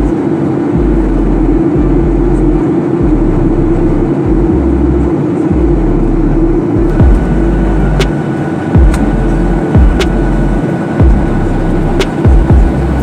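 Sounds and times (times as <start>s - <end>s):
airliner engine roar: 0.0s - 13.0s
low rumble: 0.8s - 13.0s.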